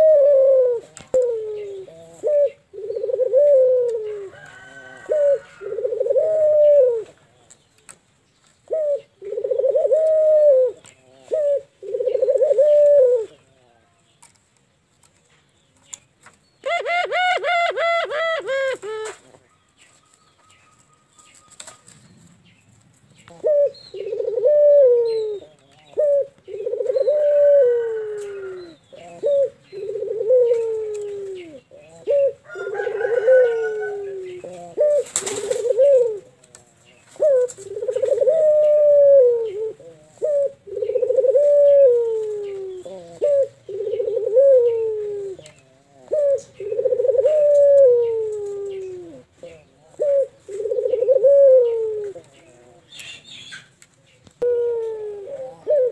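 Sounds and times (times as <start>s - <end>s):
dove cooing: 0.0s - 7.3s, 8.6s - 13.9s, 16.6s - 22.4s, 23.1s - 53.7s, 54.4s - 55.9s.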